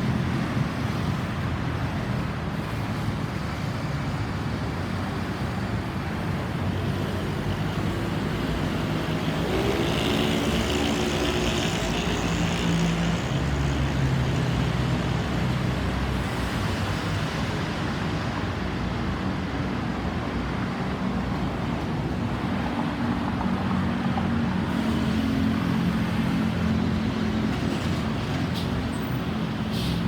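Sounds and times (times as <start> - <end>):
heavy engine passing by: 0.0 - 30.0
roadside traffic: 0.0 - 30.0.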